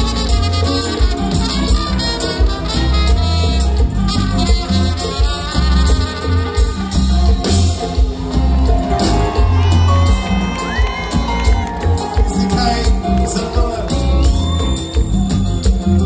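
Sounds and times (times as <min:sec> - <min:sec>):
drums: 0:00.0 - 0:16.0
electric guitar: 0:00.0 - 0:16.0
trumpet melody: 0:00.0 - 0:16.0.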